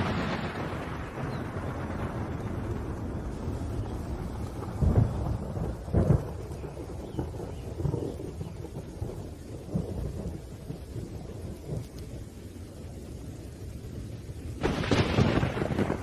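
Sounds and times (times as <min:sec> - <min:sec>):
faint rain hiss: 0:00.0 - 0:16.0
thunder rumbling: 0:00.0 - 0:16.0.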